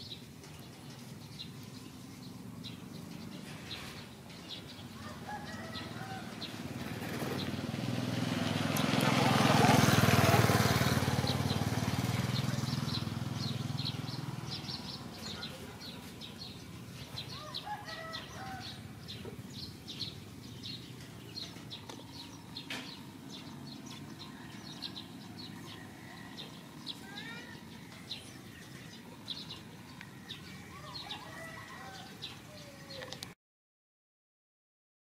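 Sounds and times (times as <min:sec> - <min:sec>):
small birds chirping: 0:00.0 - 0:33.4.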